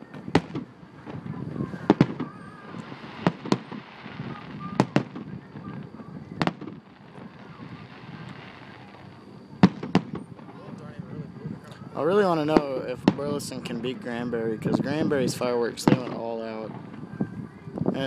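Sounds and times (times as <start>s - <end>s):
distant fireworks bursting: 0.0s - 18.0s.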